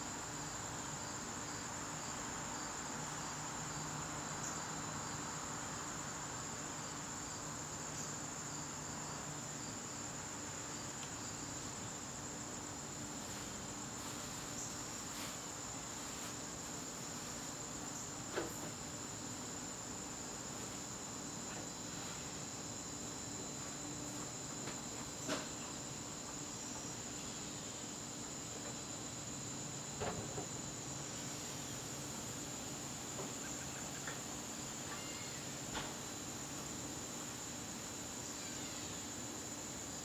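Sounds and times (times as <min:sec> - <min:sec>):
cricket chirps: 0:00.0 - 0:40.0
crickets trilling: 0:00.0 - 0:40.0.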